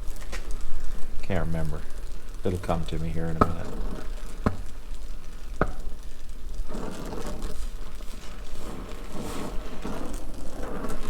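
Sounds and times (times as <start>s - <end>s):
gas torch flame hissing: 0.0s - 11.0s.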